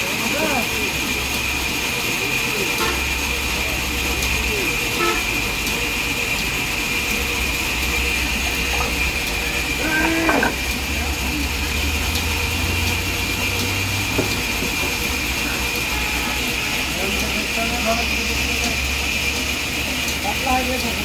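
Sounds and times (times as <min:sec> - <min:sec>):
band saw whirring with whine: 0:00.1 - 0:20.2
low motor hum: 0:00.8 - 0:21.0.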